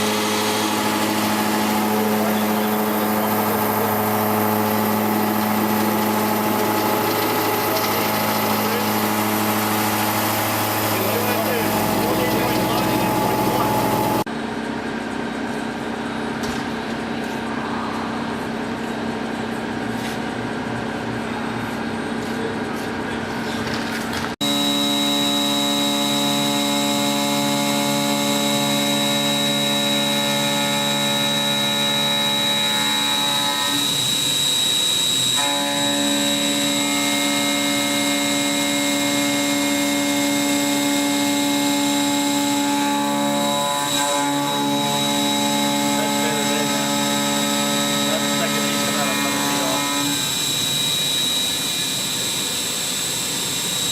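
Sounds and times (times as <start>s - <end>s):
milling spindle whine: 0.0s - 14.3s, 24.4s - 53.9s.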